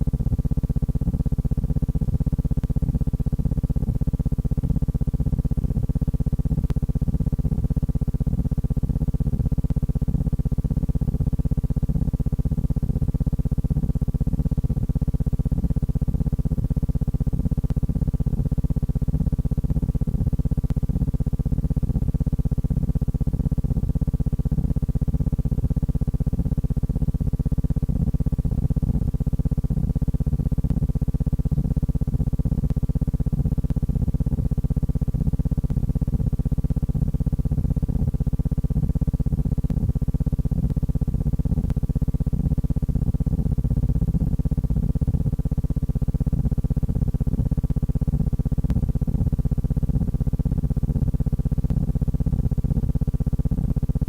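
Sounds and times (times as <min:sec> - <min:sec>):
low fluttering hum: 0:00.0 - 0:54.0.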